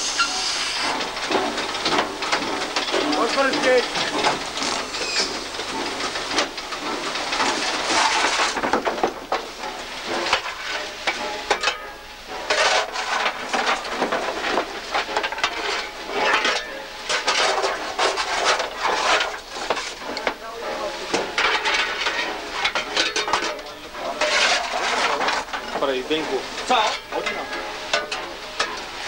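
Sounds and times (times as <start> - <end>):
shovel scraping coal: 0.0 - 29.0.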